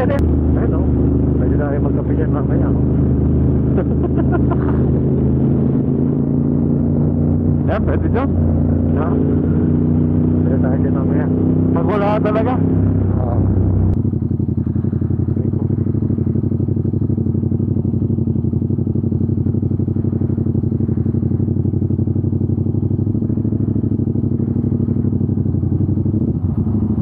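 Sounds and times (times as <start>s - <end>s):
deep hum: 0.0s - 27.0s
motorcycle engine running: 0.0s - 27.0s.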